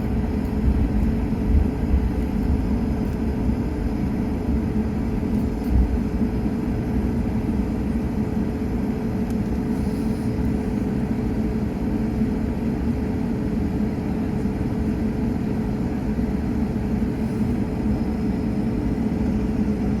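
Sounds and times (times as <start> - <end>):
aircraft cabin engine rumble: 0.0 - 20.0
constant hum: 0.0 - 20.0.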